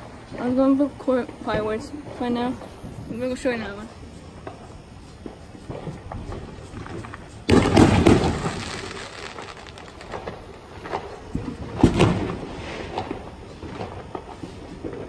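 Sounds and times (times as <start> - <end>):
fireworks bursting and crackling: 0.4 - 15.0.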